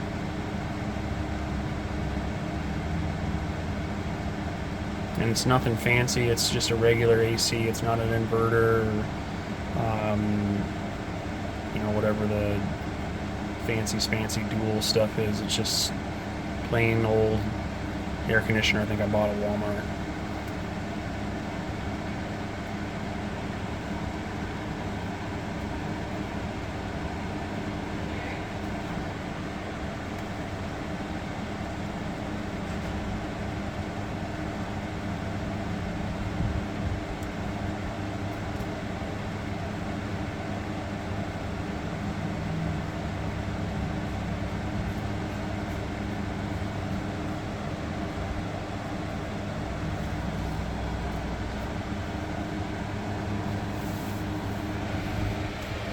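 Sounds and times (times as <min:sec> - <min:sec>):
air conditioner fan whirring: 0:00.0 - 0:55.9.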